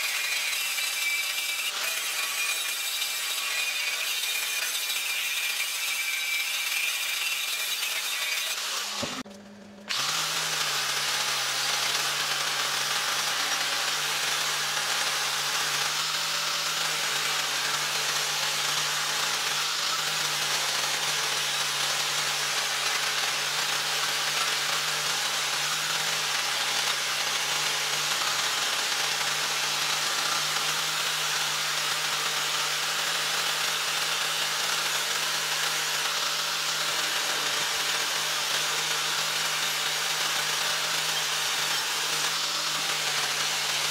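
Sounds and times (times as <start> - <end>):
angle grinder motor hum: 0.0 - 43.9.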